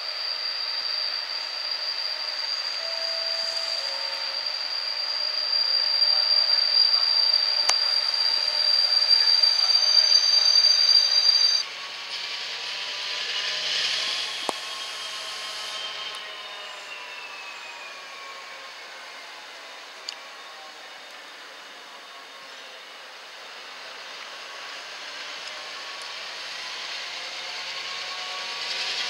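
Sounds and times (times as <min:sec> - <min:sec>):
diesel locomotive running: 0:00.0 - 0:29.0
steady high whine: 0:00.0 - 0:29.0.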